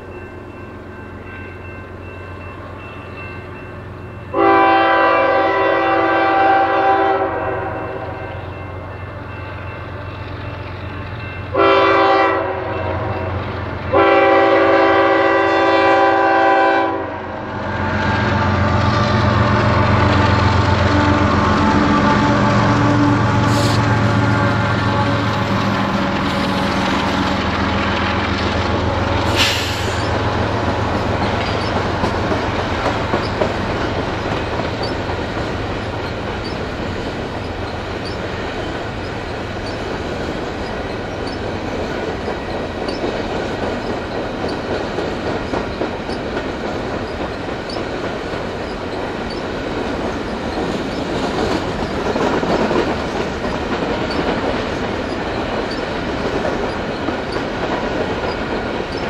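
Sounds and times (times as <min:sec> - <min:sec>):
diesel locomotive drone: 0:00.0 - 0:59.0
train wheels clickety-clack on rails: 0:00.0 - 0:59.0.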